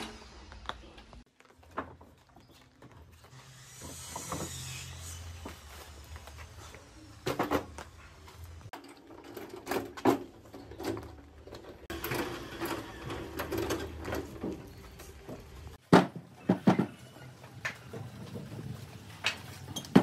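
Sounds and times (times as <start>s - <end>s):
casters rolling on concrete: 0.5s - 3.4s, 5.5s - 20.0s.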